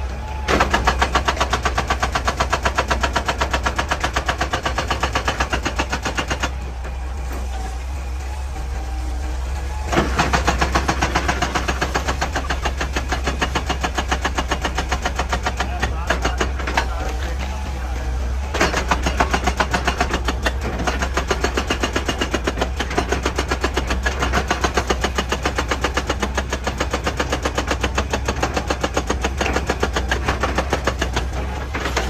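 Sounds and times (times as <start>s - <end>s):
diesel engine drone: 0.0s - 32.0s
hydraulic rock breaker hammering rock: 0.0s - 32.0s.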